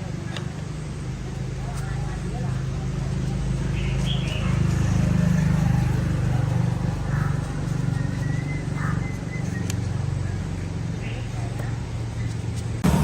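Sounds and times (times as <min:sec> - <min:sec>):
small motorbike engine running: 0:00.0 - 0:13.0.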